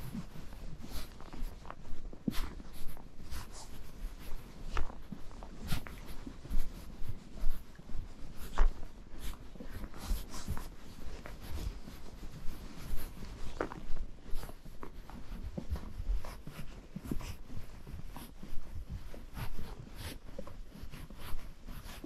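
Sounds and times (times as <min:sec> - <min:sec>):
horse hooves crunching in snow: 0:00.0 - 0:22.0.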